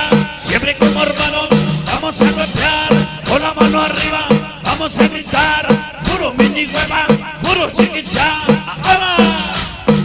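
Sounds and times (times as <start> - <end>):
steady percussion beat: 0.0 - 10.0.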